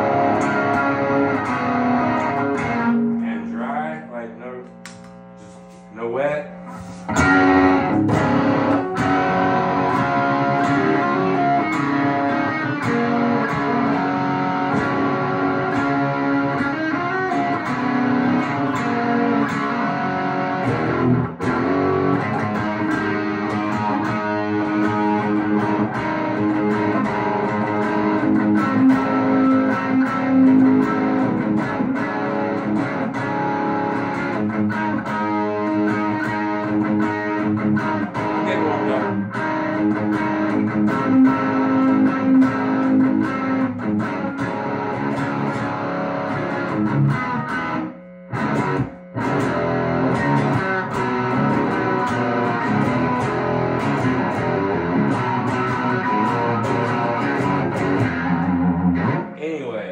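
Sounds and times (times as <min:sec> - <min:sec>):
overdriven electric guitar: 0:00.0 - 0:59.4.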